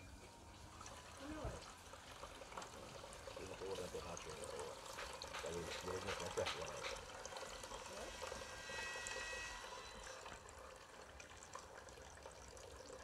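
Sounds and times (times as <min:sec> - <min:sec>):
coconut milk trickling into a pot: 0:00.0 - 0:13.0.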